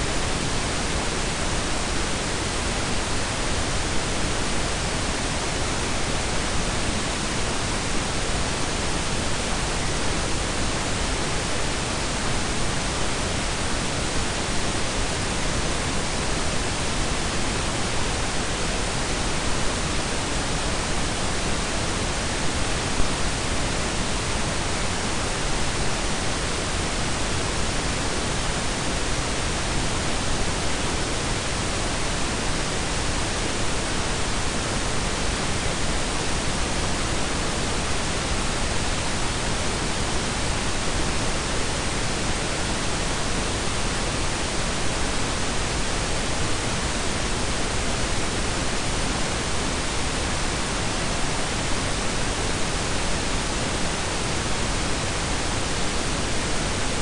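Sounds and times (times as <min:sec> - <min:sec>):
steady noise hiss and rumble: 0:00.0 - 0:57.0.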